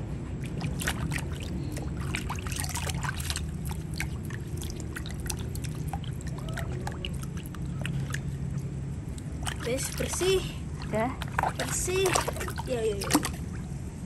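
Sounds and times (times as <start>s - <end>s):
water splashing in a plastic tub: 0.0s - 13.8s
low hum: 0.0s - 14.0s.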